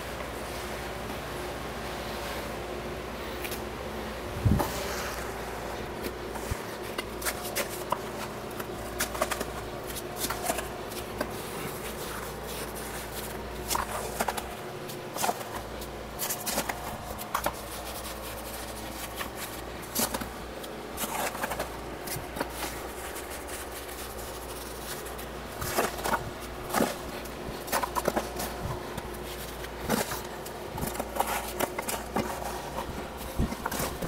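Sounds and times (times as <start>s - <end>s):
steady low hum: 0.0s - 34.0s
scraping and rustling material: 4.4s - 34.0s.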